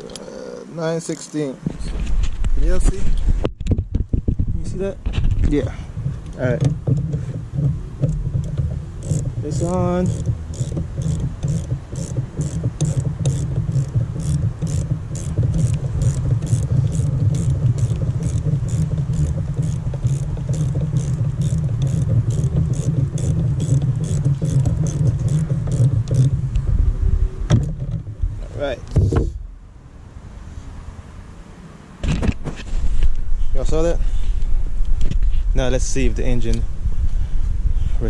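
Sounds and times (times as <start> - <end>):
wind buffeting microphone: 1.6 - 29.6, 32.0 - 38.0.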